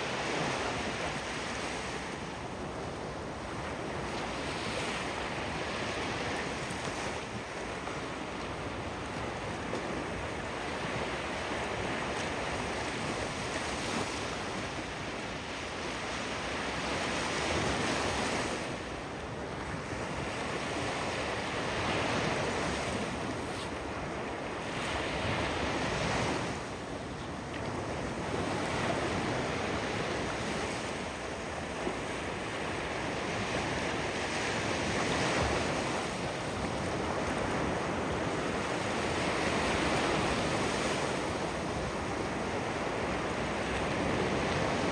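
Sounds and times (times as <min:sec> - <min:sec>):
ocean surf washing ashore: 0:00.0 - 0:44.9.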